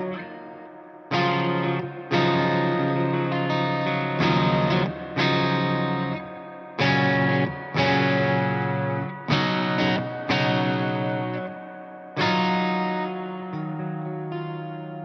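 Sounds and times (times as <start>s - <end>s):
clean electric guitar chords: 0.0s - 15.0s.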